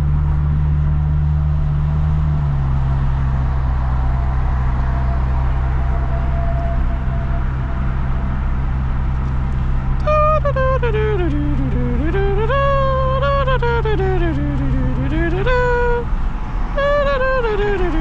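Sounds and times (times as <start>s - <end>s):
car exhaust drone: 0.0s - 18.0s
road and tyre noise: 0.0s - 18.0s.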